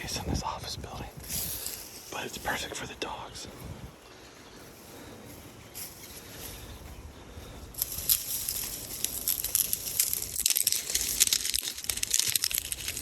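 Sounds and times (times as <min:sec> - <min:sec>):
footsteps crunching dry leaves: 0:01.1 - 0:13.0.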